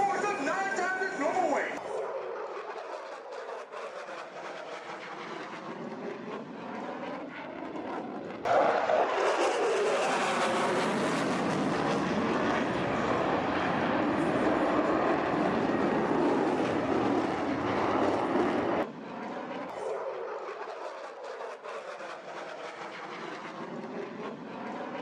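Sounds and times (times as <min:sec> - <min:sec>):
aircraft engine roar: 0:00.0 - 0:25.0.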